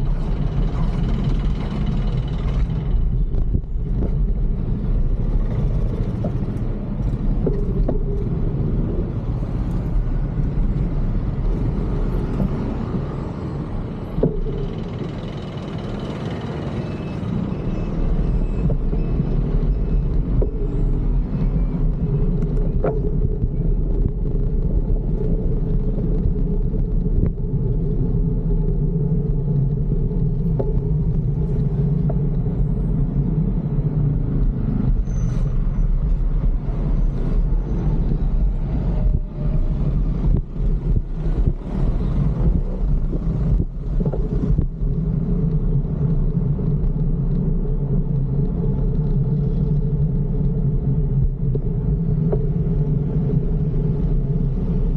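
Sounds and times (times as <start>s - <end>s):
road noise: 0.0s - 54.9s
wind on microphone: 0.0s - 54.9s.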